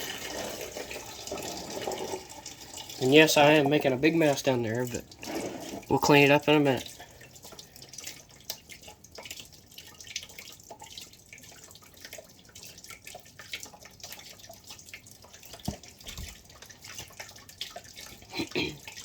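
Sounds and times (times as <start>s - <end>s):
fluid dripping into a tub: 0.0s - 19.0s.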